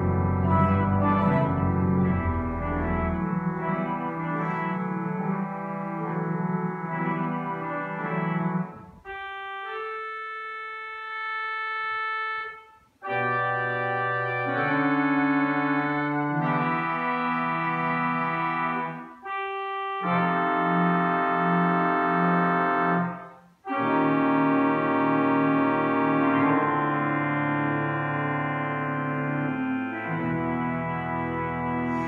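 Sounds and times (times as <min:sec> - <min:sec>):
pipe organ playing chords: 0:00.0 - 0:32.0.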